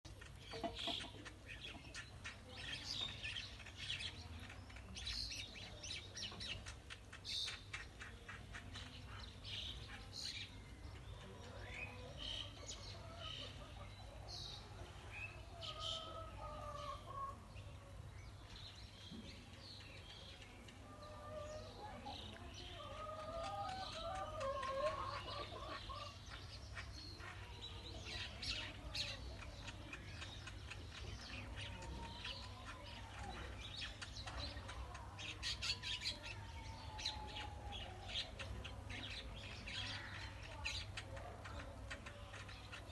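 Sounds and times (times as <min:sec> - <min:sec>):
pet birds chirping: 0:00.1 - 0:42.9.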